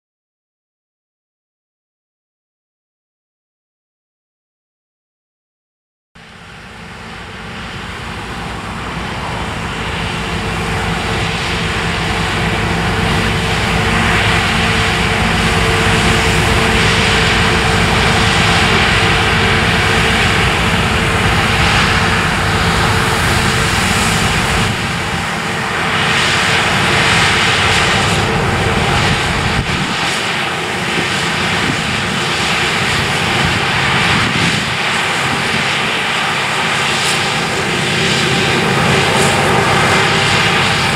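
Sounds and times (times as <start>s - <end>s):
combine harvester running: 6.2s - 40.9s.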